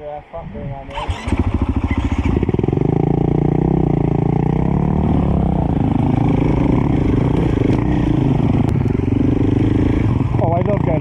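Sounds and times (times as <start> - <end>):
dirt bike engine running: 0.9 - 11.0.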